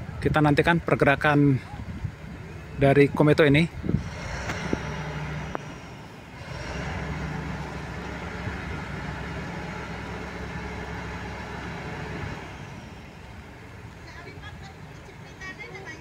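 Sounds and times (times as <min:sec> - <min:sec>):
engine humming: 0:02.1 - 0:16.0.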